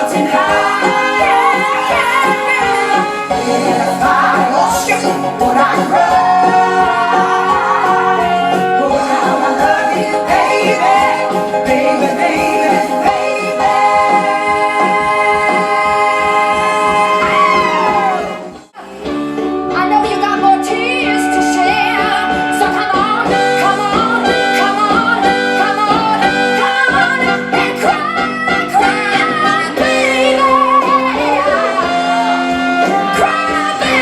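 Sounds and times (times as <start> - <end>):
live band playing: 0.0 - 34.0
women singing pop song: 0.0 - 34.0.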